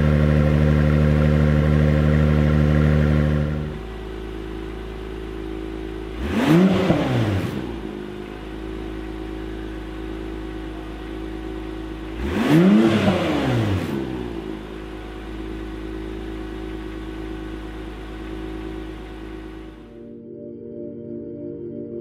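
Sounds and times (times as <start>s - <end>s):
car engine idling: 0.0s - 20.1s.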